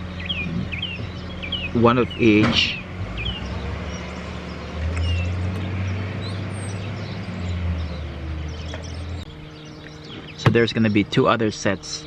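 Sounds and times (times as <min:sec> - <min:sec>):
birds chirping: 0:00.0 - 0:12.0
low mechanical hum: 0:00.0 - 0:12.0.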